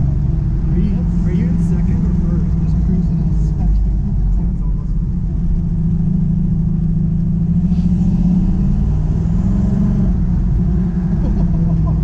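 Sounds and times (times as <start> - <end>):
car engine rumbling inside cabin: 0.0 - 12.0.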